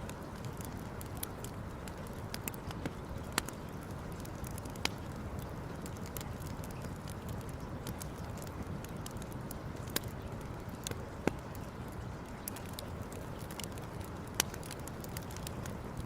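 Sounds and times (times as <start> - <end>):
campfire snaps and pops: 0.0 - 16.0.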